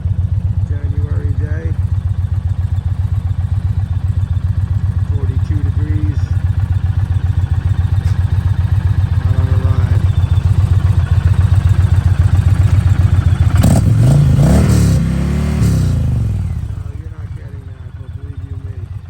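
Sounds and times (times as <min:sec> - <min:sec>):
motorcycle engine idling: 0:00.0 - 0:19.0
motorcycle engine revving: 0:00.0 - 0:19.0.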